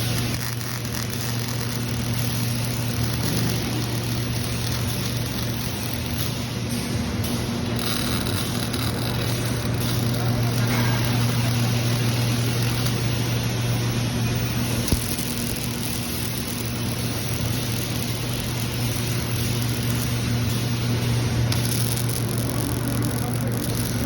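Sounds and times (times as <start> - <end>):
machine hum: 0.0 - 24.0
welding hiss: 0.0 - 24.0.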